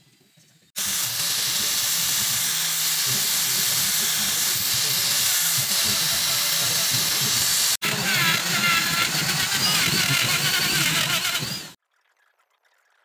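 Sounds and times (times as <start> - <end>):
angle grinder grinding metal: 0.8 - 11.8
die grinder carving wood: 0.8 - 11.8.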